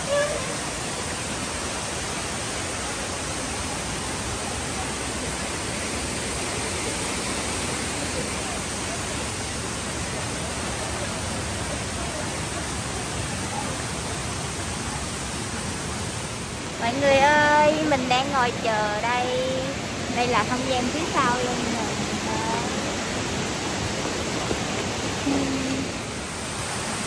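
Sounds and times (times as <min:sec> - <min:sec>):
running water rushing: 0:00.0 - 0:27.0.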